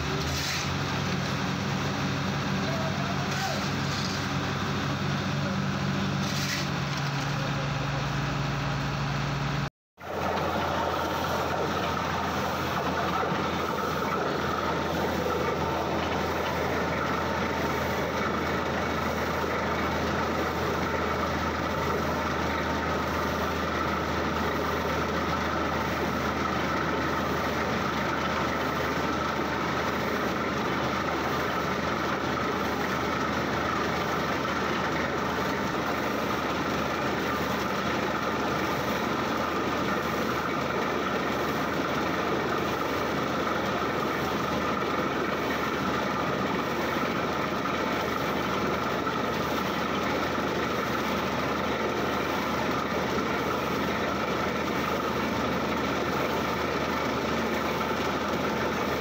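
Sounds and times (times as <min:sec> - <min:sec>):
drilling rig engine drone: 0:00.0 - 0:59.0.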